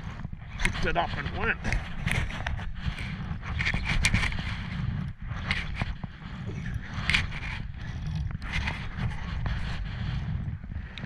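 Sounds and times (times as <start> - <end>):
fishing gear scraping and clicking: 0.0 - 11.0
wind rumble on microphone: 0.0 - 11.0.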